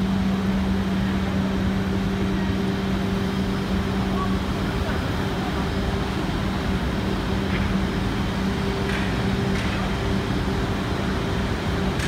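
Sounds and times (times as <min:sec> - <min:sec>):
machine hall noise: 0:00.0 - 0:12.0.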